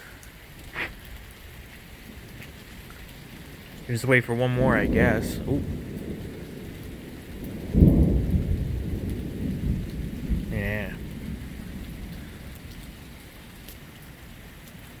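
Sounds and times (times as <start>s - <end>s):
steady rain: 0.0s - 15.0s
thunder rumbling: 2.0s - 14.5s.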